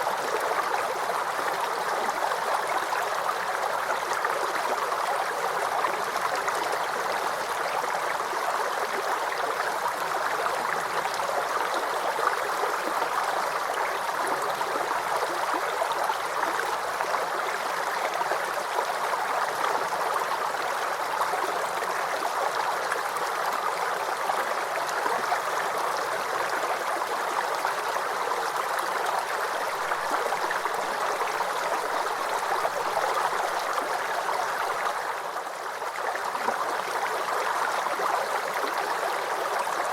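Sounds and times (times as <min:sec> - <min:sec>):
creek water gurgling over stones: 0:00.0 - 0:39.9.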